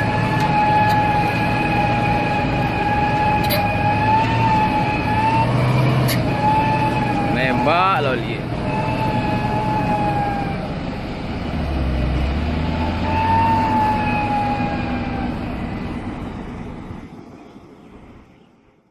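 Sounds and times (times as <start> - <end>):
truck engine labouring: 0.0 - 18.9.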